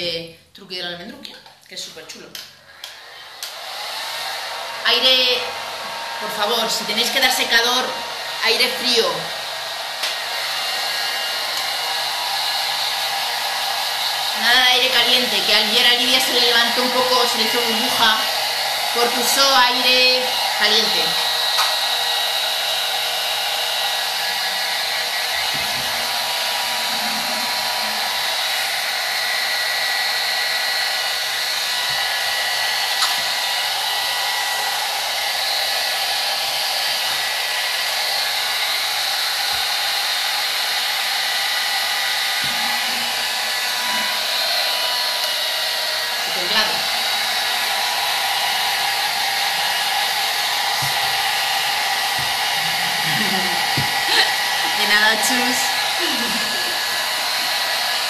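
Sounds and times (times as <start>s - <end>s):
hair dryer running: 0.8s - 58.0s.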